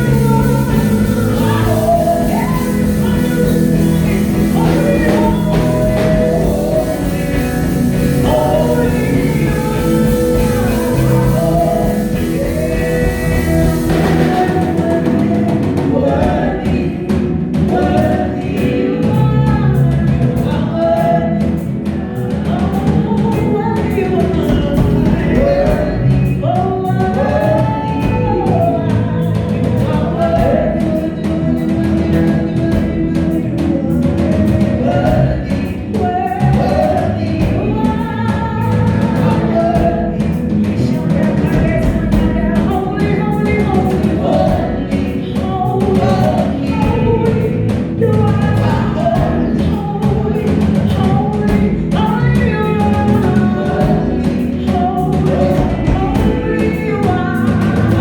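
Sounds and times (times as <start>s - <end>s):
drums: 0.0s - 58.0s
keyboard chords: 0.0s - 58.0s
voices singing together: 0.0s - 58.0s.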